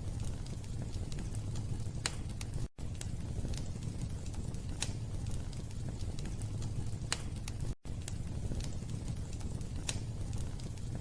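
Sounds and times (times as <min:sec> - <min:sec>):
crackling pops of wood fire: 0:00.0 - 0:11.0
fire low rumble: 0:00.0 - 0:11.0.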